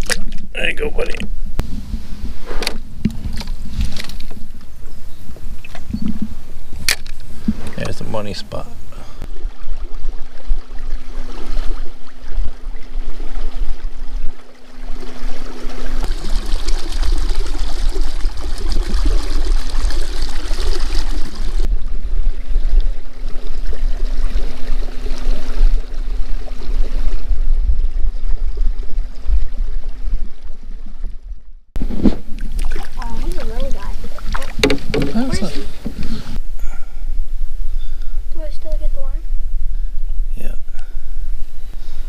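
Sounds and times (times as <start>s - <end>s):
lake water lapping: 0.0s - 31.2s, 31.8s - 42.0s
wind buffeting microphone: 1.0s - 42.0s.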